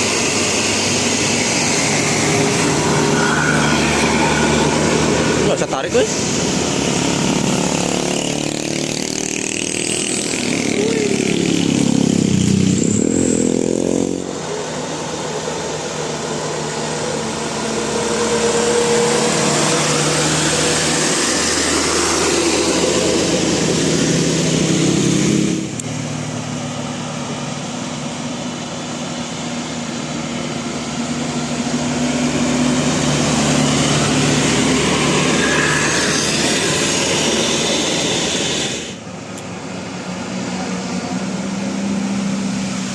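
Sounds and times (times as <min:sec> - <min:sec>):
bus and road traffic: 0:00.0 - 0:42.9
pitched drone: 0:00.0 - 0:42.9.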